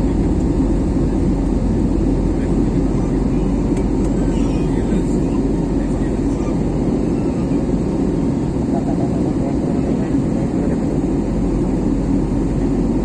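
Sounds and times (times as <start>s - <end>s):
jet engines droning in cabin: 0.0s - 13.0s.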